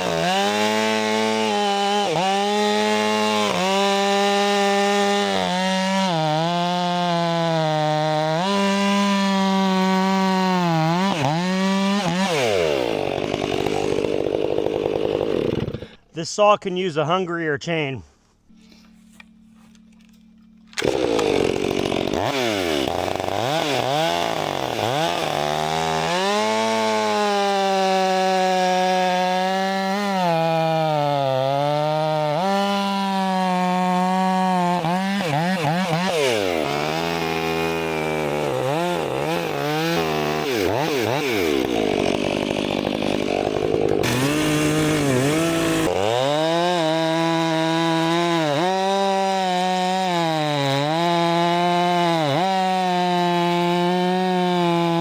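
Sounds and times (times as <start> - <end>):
chainsaw cutting log: 0.0 - 16.2, 18.5 - 55.0.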